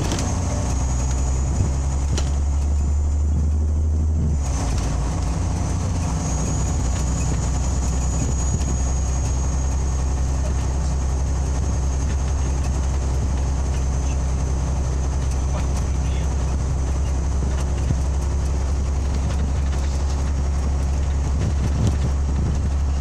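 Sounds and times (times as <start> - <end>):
bus engine droning: 0.0 - 23.0
road and tyre noise: 0.0 - 23.0.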